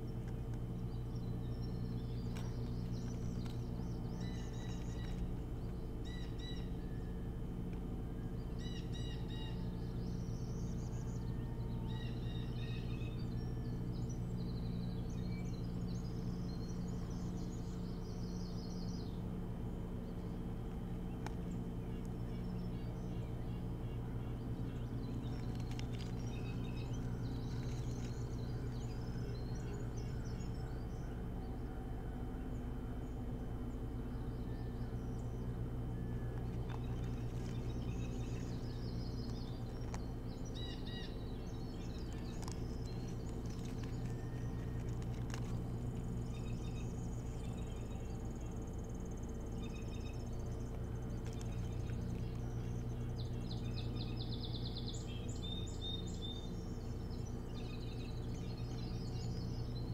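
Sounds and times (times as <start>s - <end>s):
steady low hum: 0.0s - 59.9s
high chirping bird calls: 0.8s - 7.3s, 8.1s - 19.3s, 21.0s - 31.6s, 33.7s - 59.9s.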